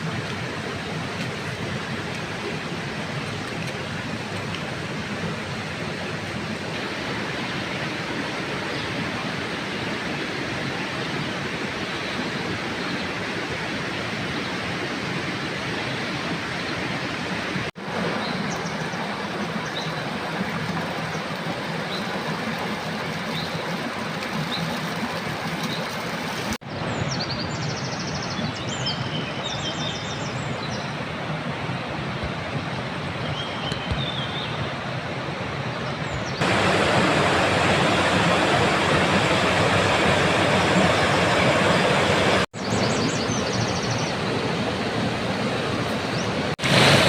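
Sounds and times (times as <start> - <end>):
rushing water: 0.0 - 47.0.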